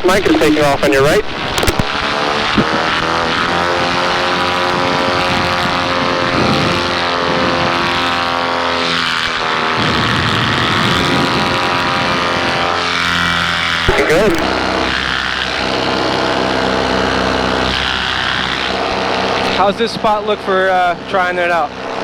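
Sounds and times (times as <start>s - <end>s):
paramotor engine and propeller: 0.0s - 22.0s.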